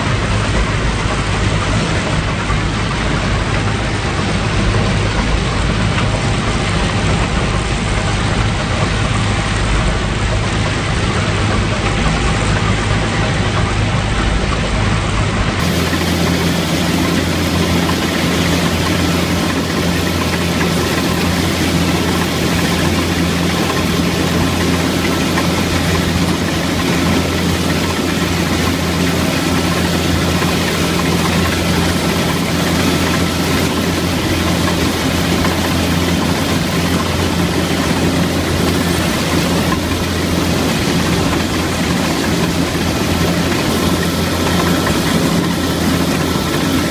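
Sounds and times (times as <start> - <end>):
combine harvester engine drone: 0.0 - 46.9
machinery whine: 0.0 - 46.9.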